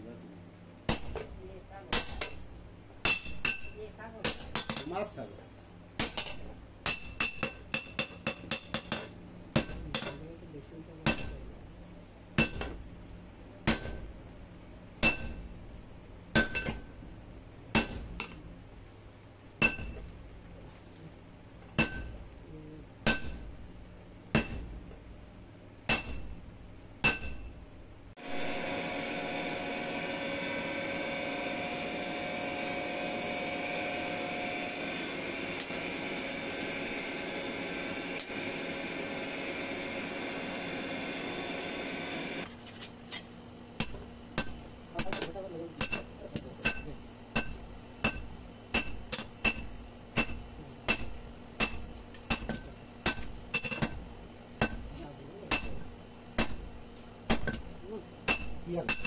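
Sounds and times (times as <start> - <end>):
forge air blower humming: 0.0 - 59.0.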